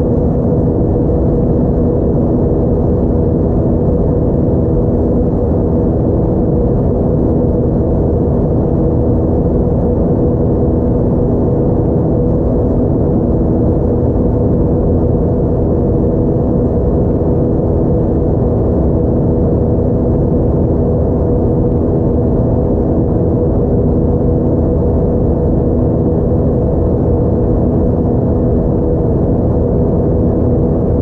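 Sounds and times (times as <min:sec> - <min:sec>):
jet engines in airplane cabin: 0:00.0 - 0:31.0.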